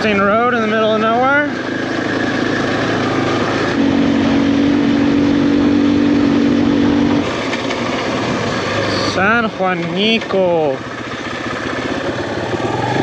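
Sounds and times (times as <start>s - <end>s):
motorcycle engine riding: 0.0s - 13.0s.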